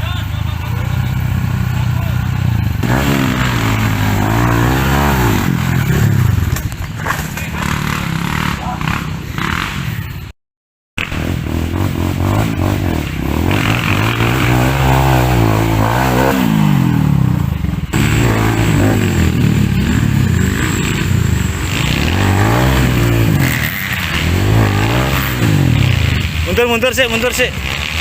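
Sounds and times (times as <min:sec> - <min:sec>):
dirt bike engine revving: 0:00.0 - 0:10.3, 0:11.0 - 0:28.0.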